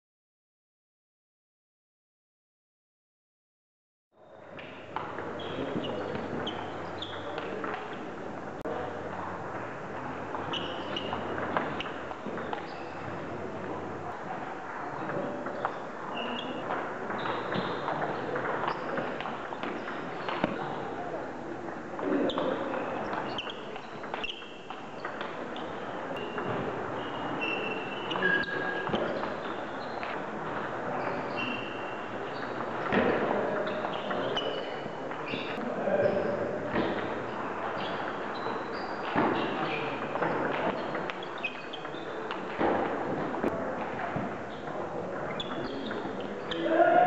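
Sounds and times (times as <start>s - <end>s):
shoes squeaking on floor: 4.3s - 7.9s, 10.0s - 20.9s, 22.0s - 47.0s.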